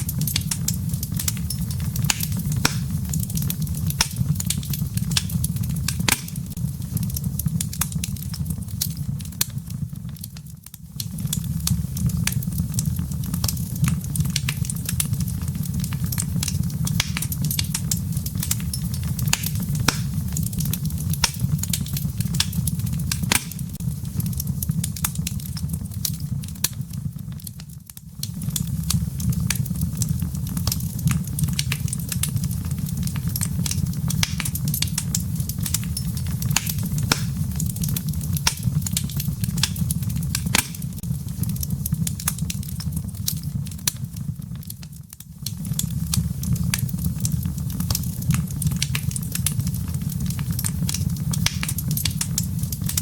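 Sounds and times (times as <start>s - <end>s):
firewood crackling and popping: 0.0s - 53.0s
low rumble of flames: 0.0s - 53.0s.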